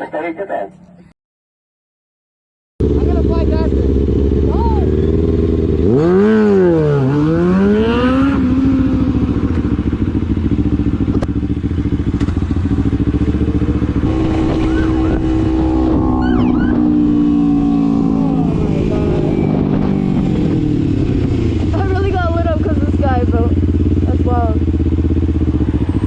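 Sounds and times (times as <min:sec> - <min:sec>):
motorcycle engine revving: 0:02.8 - 0:26.0.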